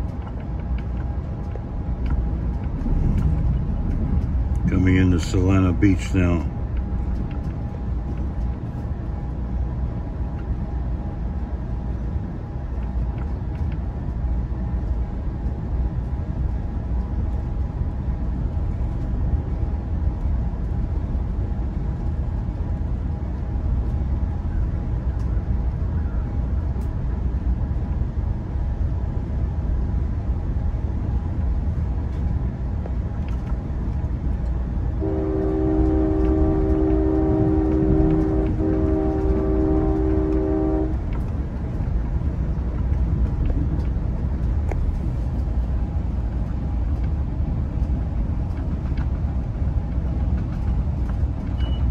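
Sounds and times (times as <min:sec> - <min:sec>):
train wheels on rails: 0:00.0 - 0:51.9.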